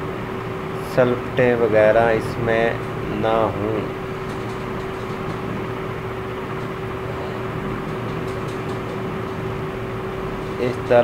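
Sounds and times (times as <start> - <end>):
mechanical hum with hiss: 0.0 - 11.0.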